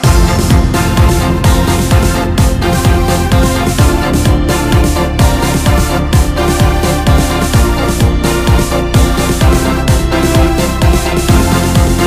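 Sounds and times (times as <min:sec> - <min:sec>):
deep bass kicks: 0:00.0 - 0:12.0
electronic background music: 0:00.0 - 0:12.0.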